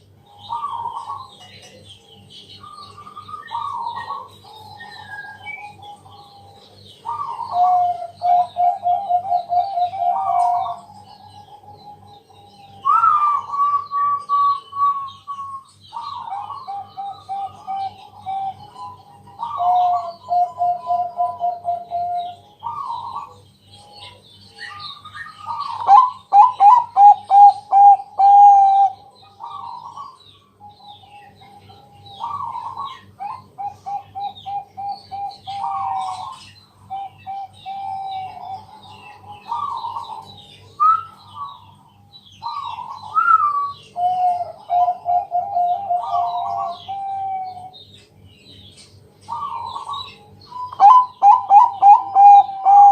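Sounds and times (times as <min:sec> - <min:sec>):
dove cooing: 0:00.0 - 0:01.8, 0:02.6 - 0:41.8, 0:42.4 - 0:47.9, 0:49.2 - 0:52.9.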